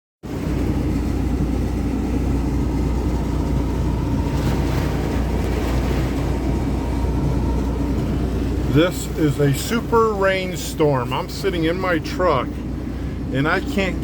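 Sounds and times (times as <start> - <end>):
low rumble: 0.2 - 14.0
heavy rain on truck cab: 0.4 - 14.0.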